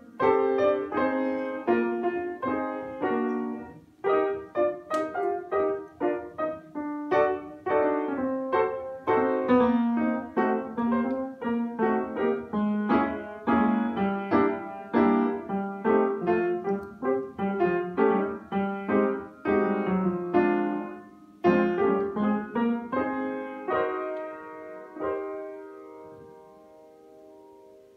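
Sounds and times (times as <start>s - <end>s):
upright piano playing: 0.0s - 27.9s.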